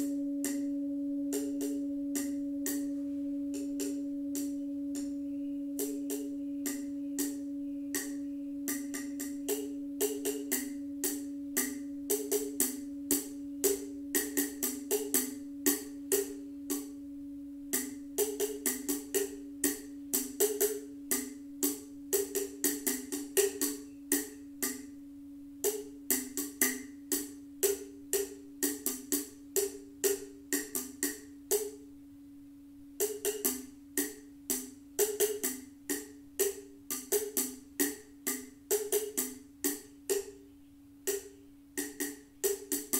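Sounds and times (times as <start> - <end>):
small hand percussion strokes: 0.0 - 17.0, 17.7 - 25.0, 25.6 - 31.9, 33.0 - 42.9
singing bowl humming: 0.0 - 42.9.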